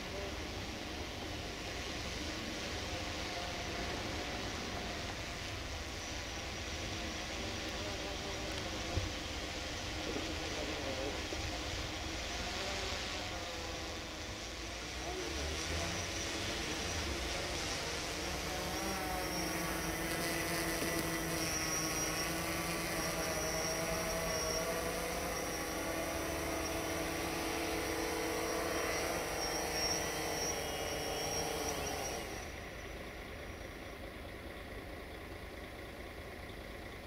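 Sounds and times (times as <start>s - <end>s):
drone rotors buzzing: 0.0s - 35.3s.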